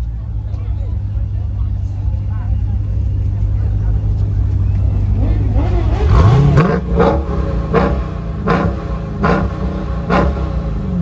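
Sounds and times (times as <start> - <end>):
car engine at raised revs: 0.0 - 11.0.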